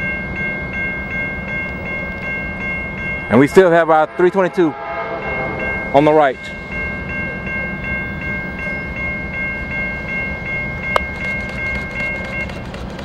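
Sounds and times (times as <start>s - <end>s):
railroad bell ringing: 0.0s - 13.0s
train rumble: 0.0s - 13.0s.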